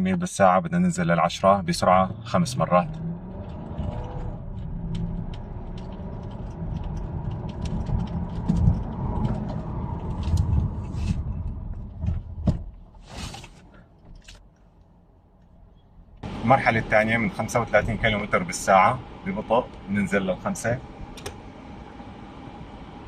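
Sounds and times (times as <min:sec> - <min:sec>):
car road and drivetrain rumble: 0:01.0 - 0:23.0.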